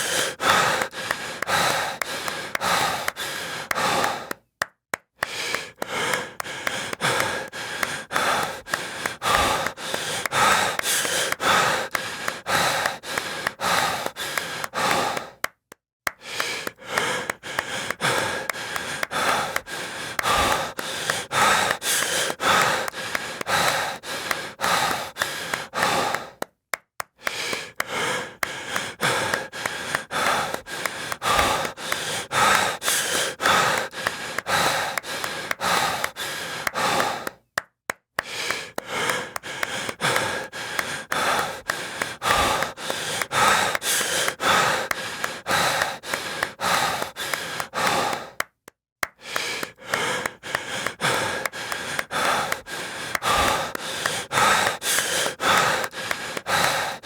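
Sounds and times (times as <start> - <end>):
heavy breathing: 0.0 - 4.5, 5.2 - 15.5, 16.1 - 26.6, 27.2 - 37.5, 38.2 - 57.0
quick regular claps: 0.0 - 57.0.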